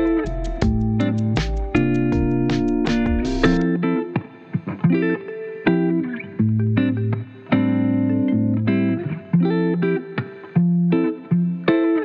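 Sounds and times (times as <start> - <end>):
guitar music with bass: 0.0 - 12.0.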